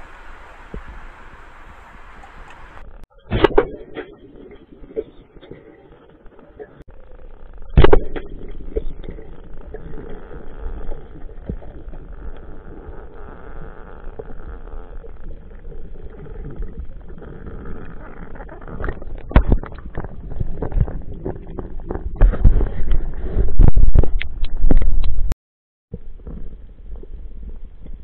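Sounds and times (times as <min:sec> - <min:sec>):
underwater rumble of moving water: 0:00.0 - 0:25.3, 0:25.9 - 0:28.0.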